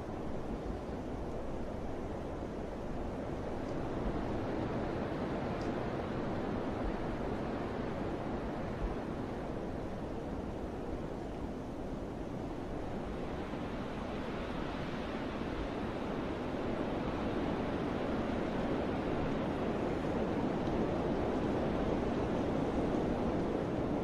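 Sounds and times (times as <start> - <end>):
wind rustling through trees: 0.0 - 24.0.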